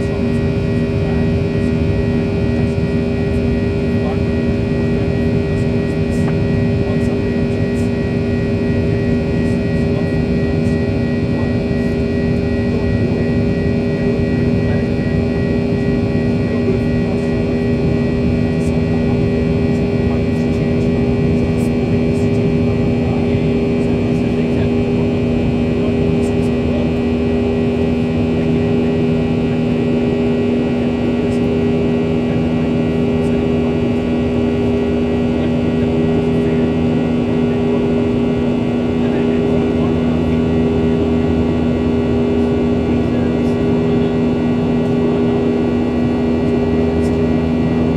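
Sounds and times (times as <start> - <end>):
jet engines droning: 0.0 - 47.9
steady hum tones: 0.0 - 47.9.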